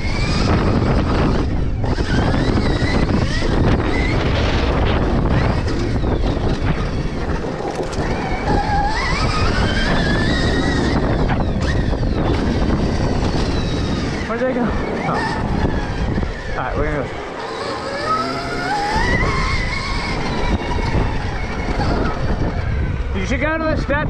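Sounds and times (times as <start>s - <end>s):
electric motor whine: 0.0s - 24.0s
wind noise on microphone: 0.0s - 24.0s.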